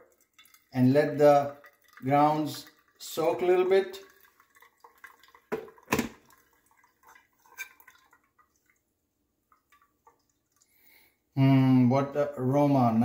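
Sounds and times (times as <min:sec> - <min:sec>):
water pouring onto coffee: 0:00.0 - 0:11.0.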